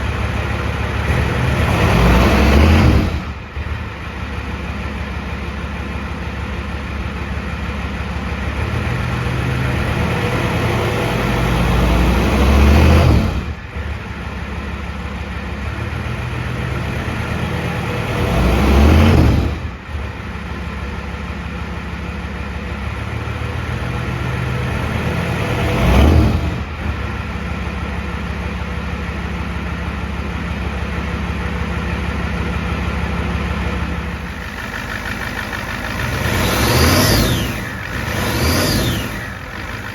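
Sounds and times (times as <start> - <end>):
diesel truck engine idling and revving: 0.0 - 39.9.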